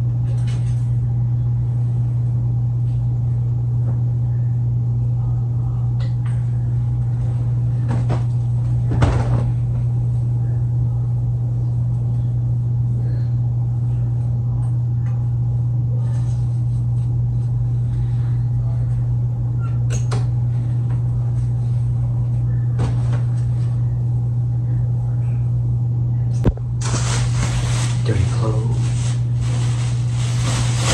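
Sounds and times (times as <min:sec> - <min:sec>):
loud low hum: 0:00.0 - 0:30.9.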